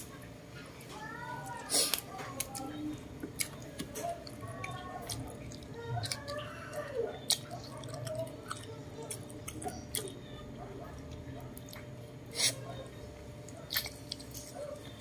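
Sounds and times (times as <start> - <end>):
person chewing and lip-smacking: 1.4 - 12.7, 13.4 - 15.0.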